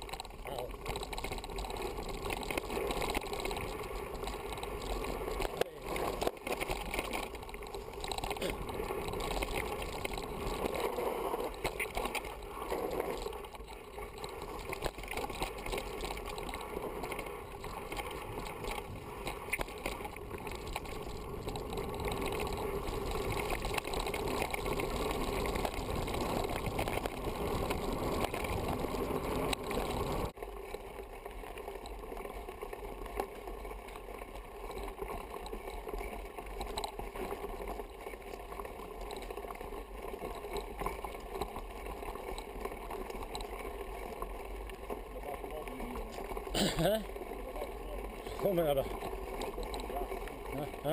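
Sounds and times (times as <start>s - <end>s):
bike rattling over rough ground: 0.0s - 50.9s.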